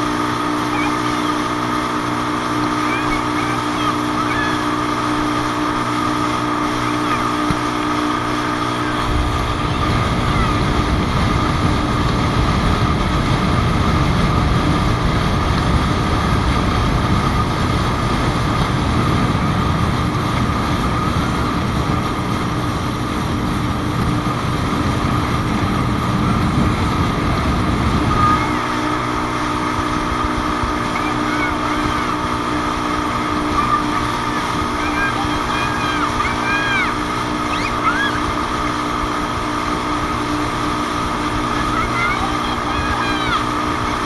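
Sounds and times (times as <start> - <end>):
heavy low rumble: 0.0 - 44.0.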